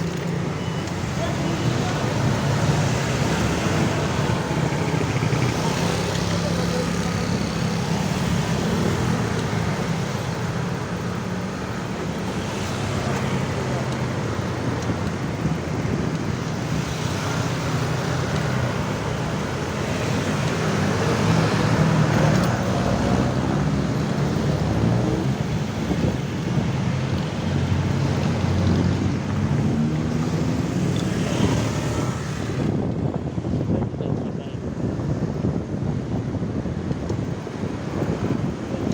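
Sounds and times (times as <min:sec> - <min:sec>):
vehicle engines humming: 0:00.0 - 0:38.9.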